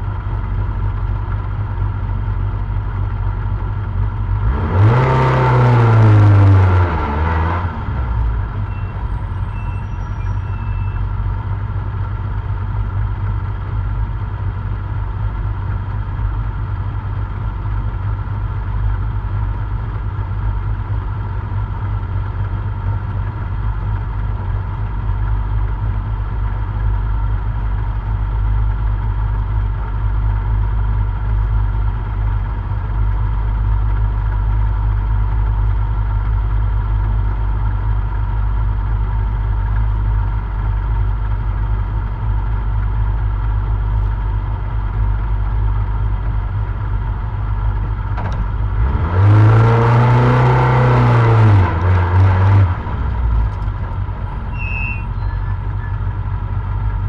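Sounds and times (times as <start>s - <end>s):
car engine idling: 0.0s - 4.9s, 5.5s - 49.1s, 49.8s - 57.0s.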